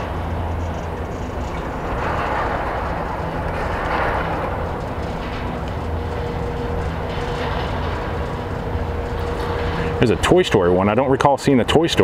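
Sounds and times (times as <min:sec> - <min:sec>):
gondola lift rumble and hum: 0:00.0 - 0:12.0.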